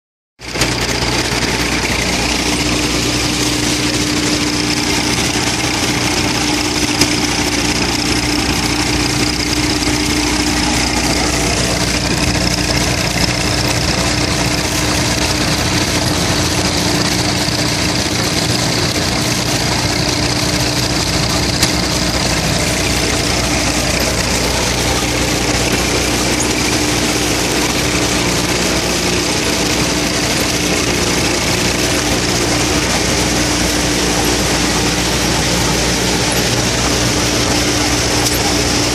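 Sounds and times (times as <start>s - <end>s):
thresher drum and blower humming: 0.4s - 38.9s
tractor engine: 0.4s - 38.9s.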